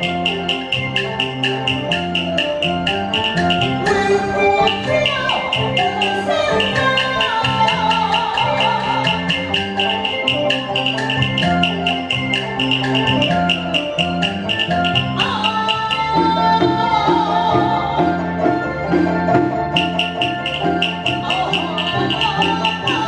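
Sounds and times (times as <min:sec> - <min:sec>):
gliding instrumental melody: 0:00.0 - 0:23.0.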